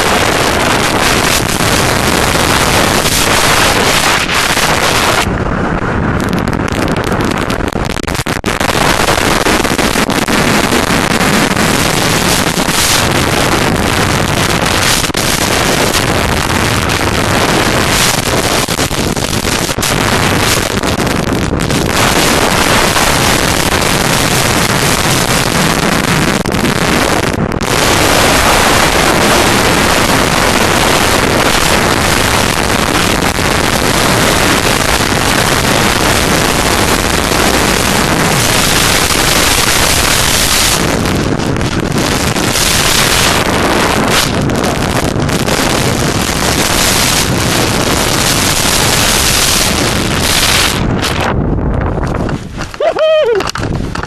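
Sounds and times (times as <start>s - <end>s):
heavy wind noise on microphone: 0.0s - 54.0s.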